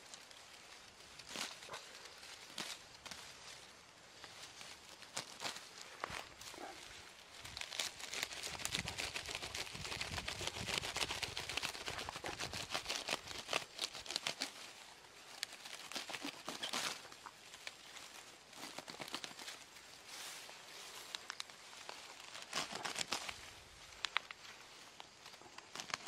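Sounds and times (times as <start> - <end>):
grass rustling and tearing: 0.0 - 26.0.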